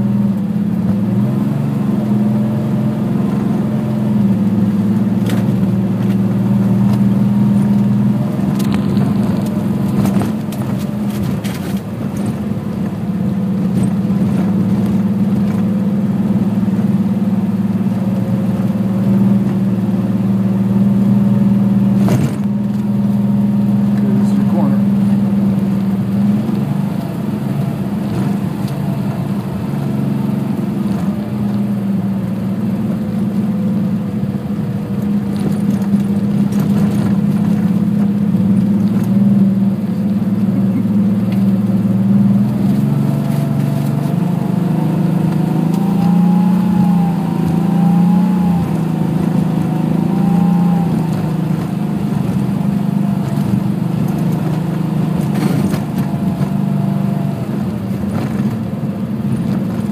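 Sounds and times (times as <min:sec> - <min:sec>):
car engine running under load: 0:00.0 - 0:59.9.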